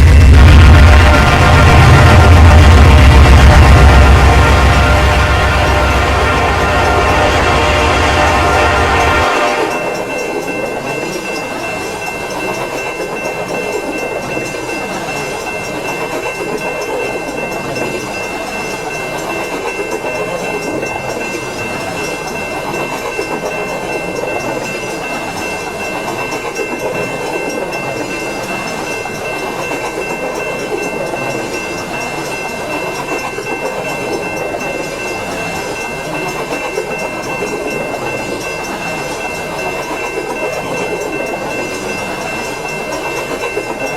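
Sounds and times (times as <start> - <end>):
train cars rumbling and rattling: 0.0 - 43.9.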